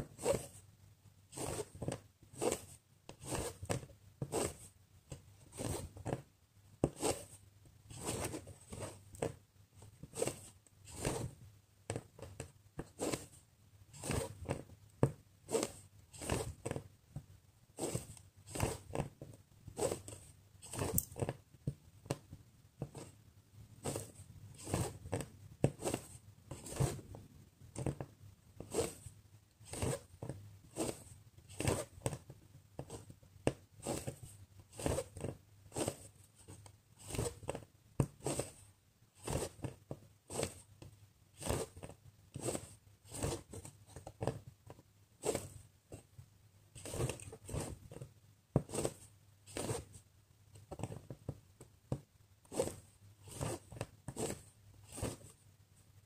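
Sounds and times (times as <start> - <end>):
thread rasping through fabric: 0.0 - 0.7, 1.3 - 44.5, 45.2 - 46.2, 46.8 - 55.4.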